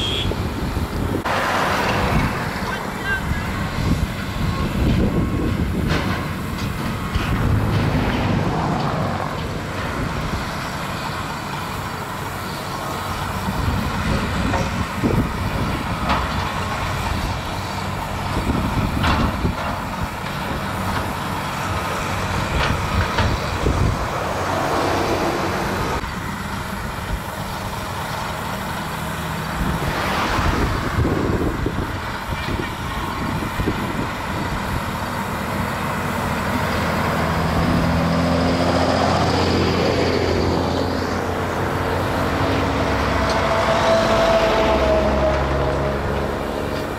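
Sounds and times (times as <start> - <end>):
excavator diesel engines running: 0.0 - 46.9.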